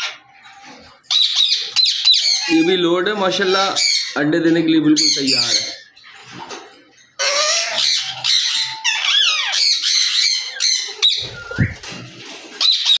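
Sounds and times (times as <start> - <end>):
parakeets squawking: 0.0 - 13.0.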